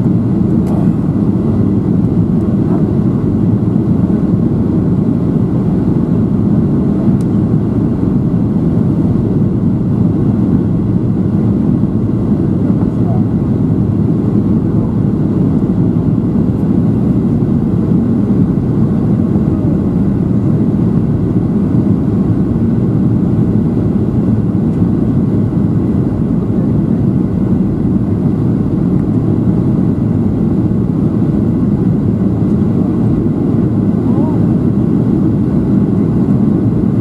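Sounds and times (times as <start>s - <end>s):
airflow over fuselage: 0.0s - 37.0s
jet engine hum: 0.0s - 37.0s.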